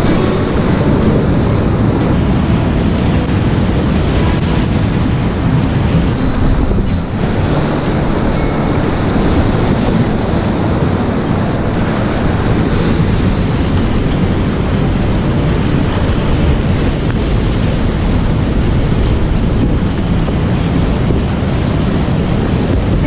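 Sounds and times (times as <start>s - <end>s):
whitewater rushing and splashing: 0.0s - 23.0s
wind buffeting microphone: 0.0s - 23.0s.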